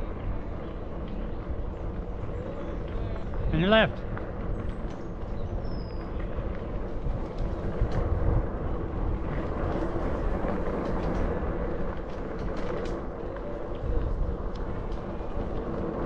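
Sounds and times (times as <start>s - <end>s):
bike clicks and rattles: 0.0s - 16.0s
bike tyres rumbling on trail: 0.0s - 16.0s.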